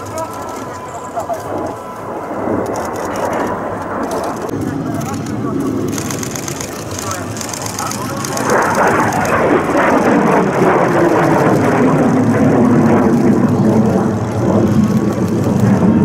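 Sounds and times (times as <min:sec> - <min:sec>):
jet passing overhead: 0:00.0 - 0:16.0.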